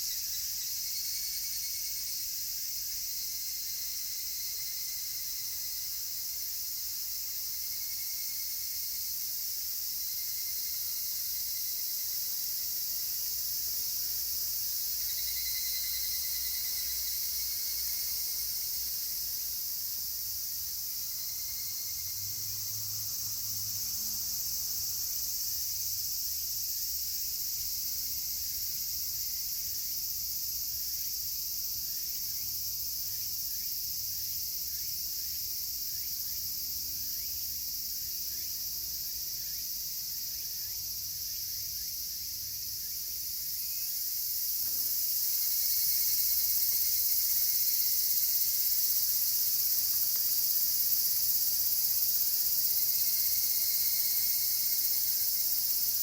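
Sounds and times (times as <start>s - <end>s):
cicadas shrilling: 0.0s - 56.0s
evening cicada calls: 0.0s - 56.0s.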